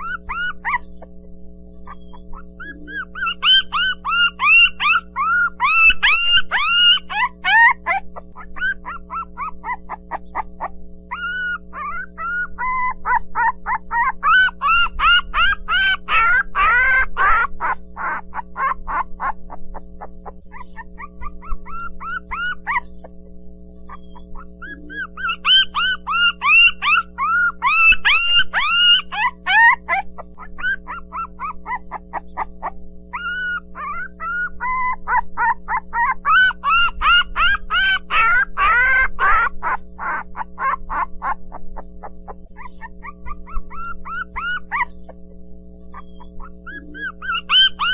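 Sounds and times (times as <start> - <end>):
puppies squealing and yelping: 0.0 - 47.9
puppy whines: 0.0 - 47.9
steady low hum: 0.0 - 47.9.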